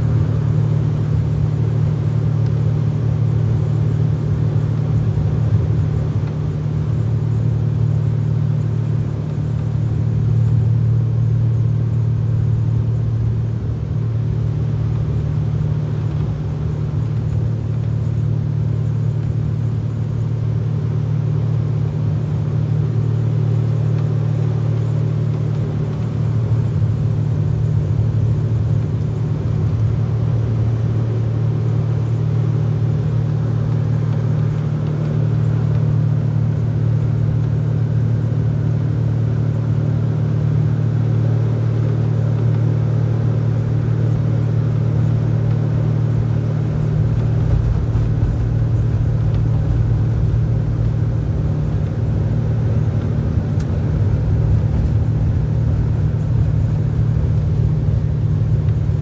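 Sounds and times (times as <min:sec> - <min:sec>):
boat motor running: 0:00.0 - 0:59.0.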